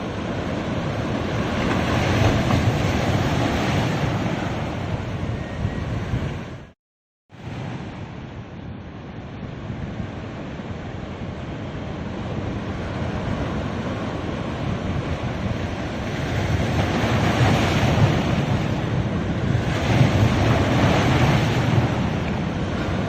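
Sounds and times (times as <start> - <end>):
ocean waves washing onto beach: 0.0 - 5.6, 7.4 - 23.0.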